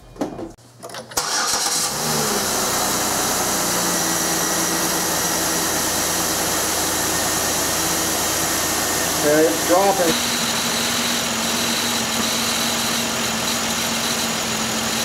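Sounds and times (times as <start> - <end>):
car engine fast idle: 1.2 - 15.0.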